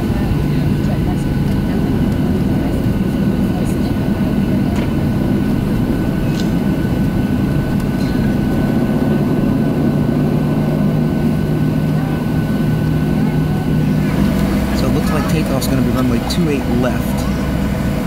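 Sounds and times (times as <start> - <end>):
jet engines idling in cabin: 0.0 - 18.0.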